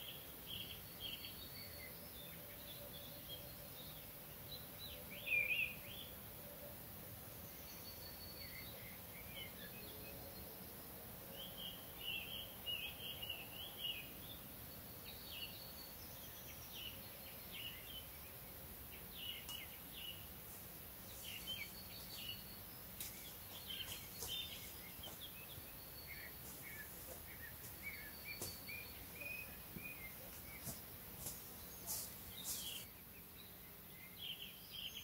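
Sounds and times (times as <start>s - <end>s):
faint background hiss: 0.0s - 35.0s
wild birds singing: 0.0s - 35.0s.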